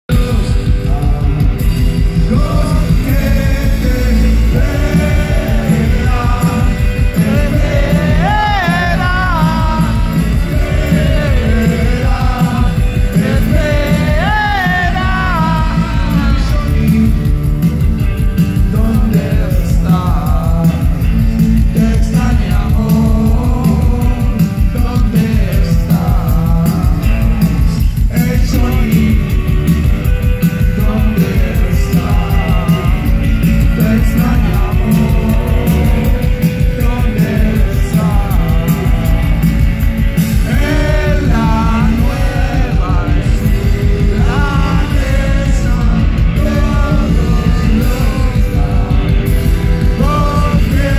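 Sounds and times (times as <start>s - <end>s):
heavy bass and drums: 0.0s - 50.9s
live rock band playing: 0.0s - 50.9s
man singing: 0.0s - 50.9s.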